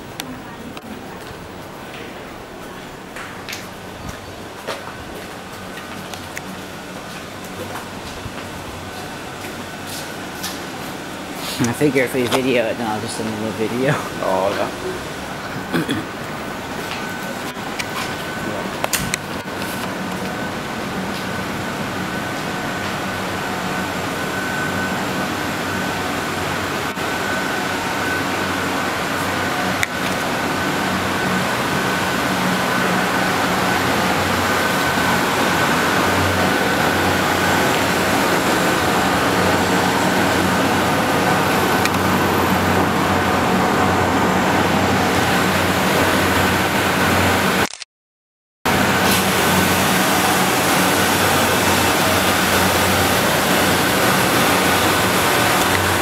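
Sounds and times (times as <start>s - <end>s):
machinery hum: 0.0s - 47.6s, 48.7s - 56.0s.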